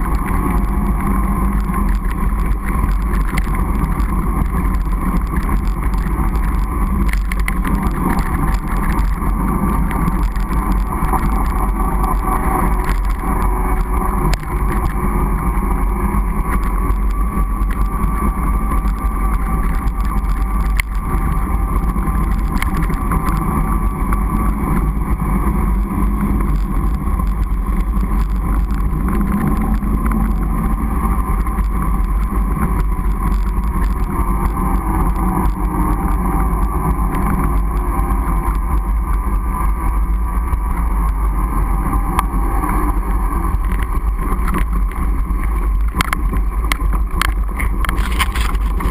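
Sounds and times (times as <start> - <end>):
tyres rolling over snow: 0.0 - 48.9
wind on microphone: 0.0 - 48.9.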